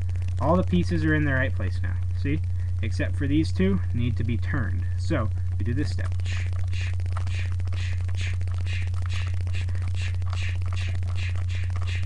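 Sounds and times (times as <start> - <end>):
loud electrical hum: 0.0 - 12.0.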